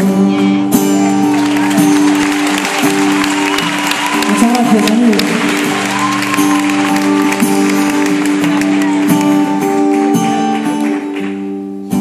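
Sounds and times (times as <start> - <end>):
live rock band playing: 0.0 - 11.9
held guitar chords: 0.0 - 12.0.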